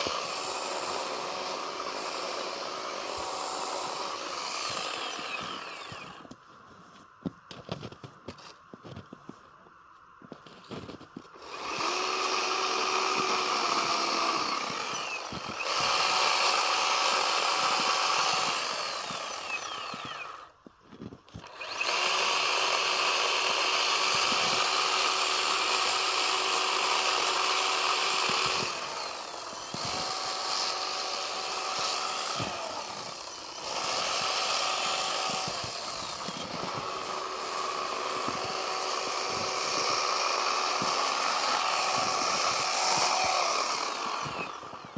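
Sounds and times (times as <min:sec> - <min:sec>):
chainsaw cutting snow: 0:00.0 - 0:09.4, 0:10.3 - 0:44.9.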